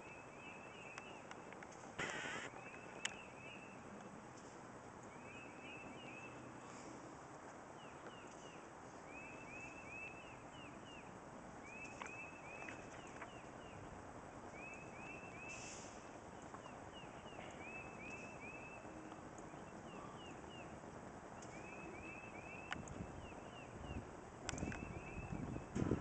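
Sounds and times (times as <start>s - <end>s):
faint background hiss: 0.0s - 25.8s
songbird chirping: 0.0s - 26.0s.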